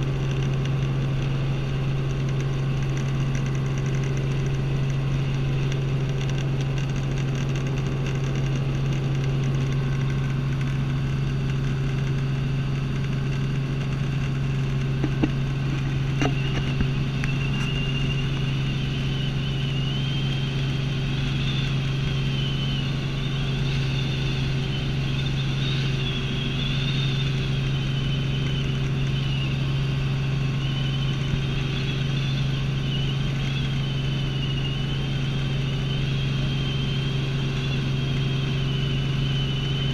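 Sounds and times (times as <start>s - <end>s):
faint high wavering whine: 0.0s - 39.9s
helicopter engine and rotor drone: 0.0s - 39.9s.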